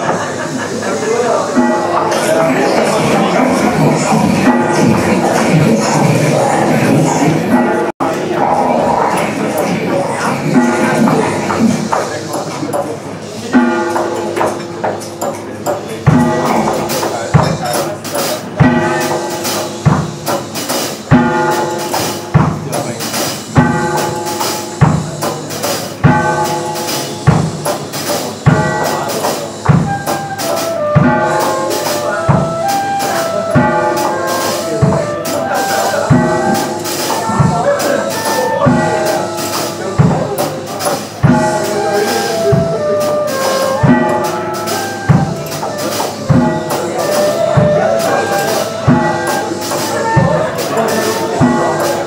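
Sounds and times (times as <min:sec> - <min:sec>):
live band music: 0:00.0 - 0:52.0.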